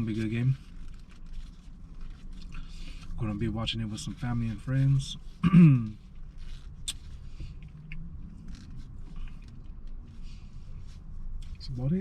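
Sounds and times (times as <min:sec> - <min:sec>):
faint rustles and clicks: 0:00.0 - 0:12.0
low background rumble: 0:00.0 - 0:12.0.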